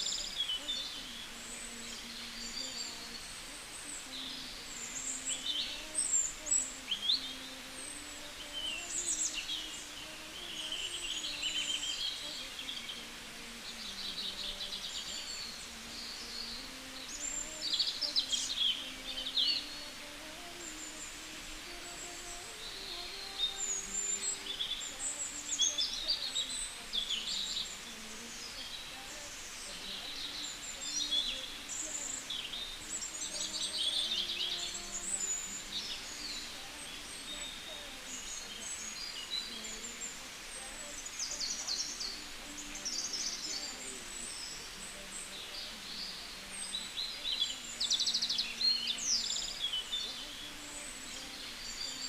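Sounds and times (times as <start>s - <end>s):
birds singing and chirping: 0.0s - 52.0s.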